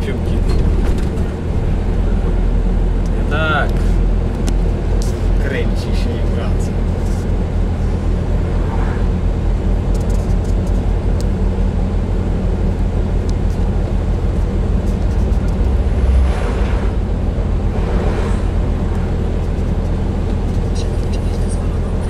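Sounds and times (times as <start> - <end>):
road noise: 0.0 - 22.0
vehicle engine drone: 0.0 - 22.0.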